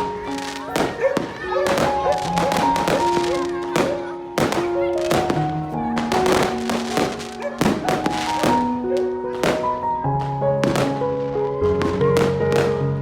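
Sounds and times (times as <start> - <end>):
background music with sustained notes: 0.0 - 13.0
firework bangs and crackles: 0.0 - 13.0.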